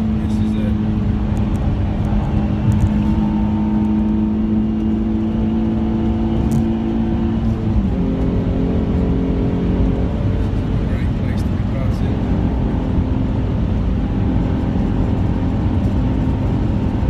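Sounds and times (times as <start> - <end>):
car engine under load: 0.0 - 17.0
tyre and road noise: 0.0 - 17.0.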